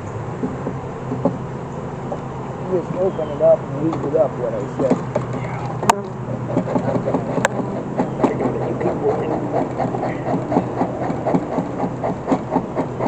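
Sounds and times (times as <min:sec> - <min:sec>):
honeybees humming: 0:00.0 - 0:13.0.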